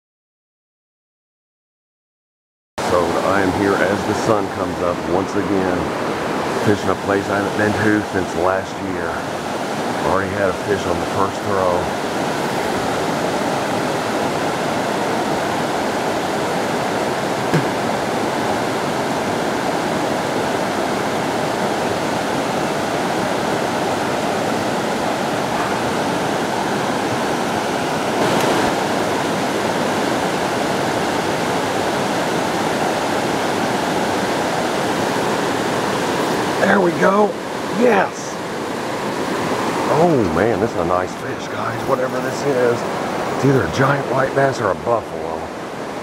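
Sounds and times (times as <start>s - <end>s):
river water rushing over rocks: 2.8s - 46.0s.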